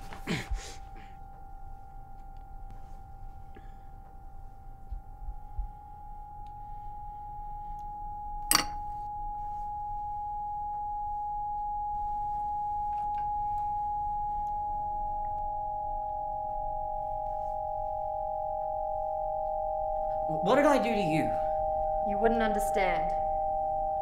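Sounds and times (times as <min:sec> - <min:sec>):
high-pitched pure tone: 0:00.0 - 0:24.0
lower tone: 0:00.0 - 0:24.0.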